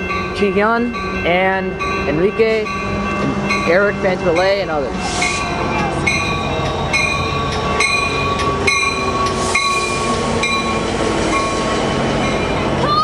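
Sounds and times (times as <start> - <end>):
crossing warning bell dinging: 0.0 - 13.0
diesel locomotive engine rumbling: 0.0 - 13.0.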